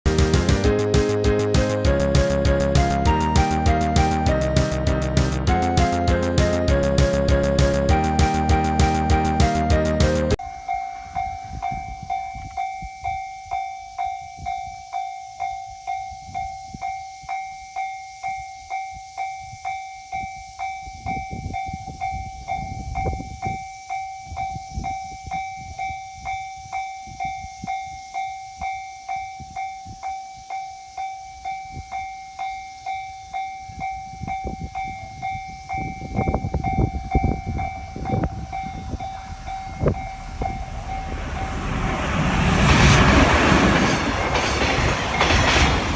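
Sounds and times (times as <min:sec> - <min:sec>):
low rumble of approaching train: 0:00.1 - 0:17.8, 0:18.4 - 0:30.5, 0:31.3 - 0:45.9
level crossing warning bell ringing: 0:05.5 - 0:45.9.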